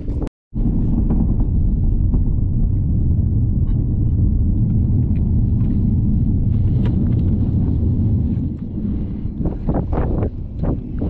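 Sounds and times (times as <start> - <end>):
distant explosion rumble: 0.0 - 11.0.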